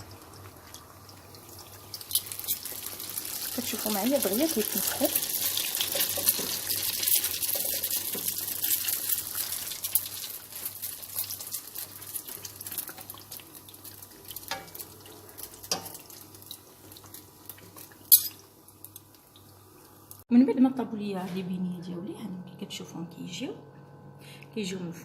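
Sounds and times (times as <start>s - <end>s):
dough deep-frying in hot oil: 0.0s - 20.3s.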